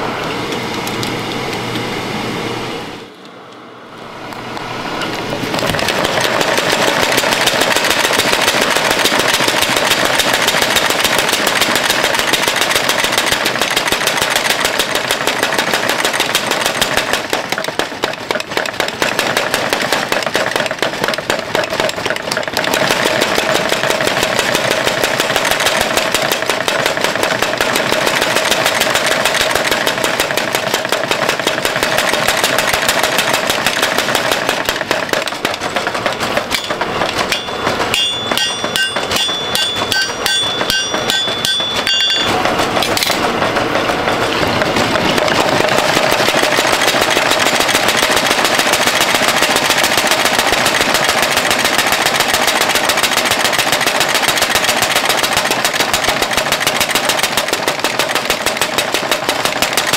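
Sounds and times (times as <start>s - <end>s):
power hammer pounding: 5.0s - 59.9s.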